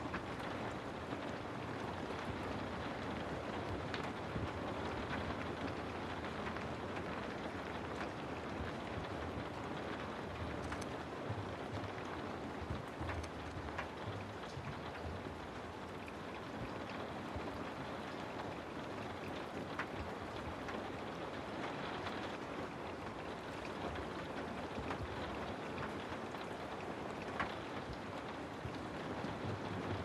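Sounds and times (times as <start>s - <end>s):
sharp raindrops: 0.0s - 30.0s
steady rain: 0.0s - 30.0s.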